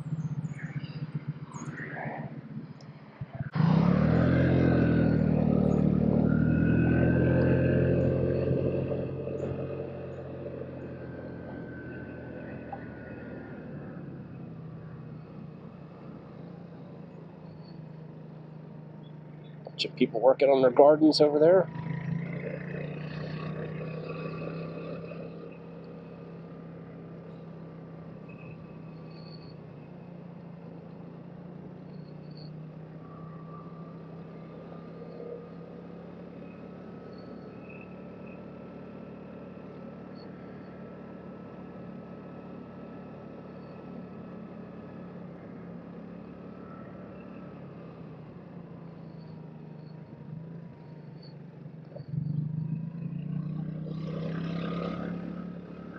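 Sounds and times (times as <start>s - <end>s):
scooter engine running: 0.0s - 55.9s.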